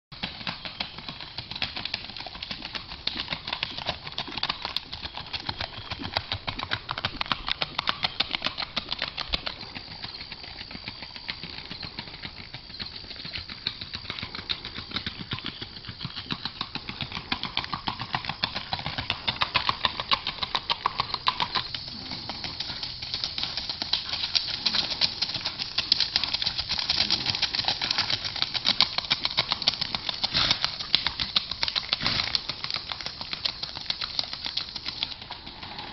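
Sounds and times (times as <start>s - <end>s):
horse hoofbeats clip-clopping: 0.1s - 35.9s.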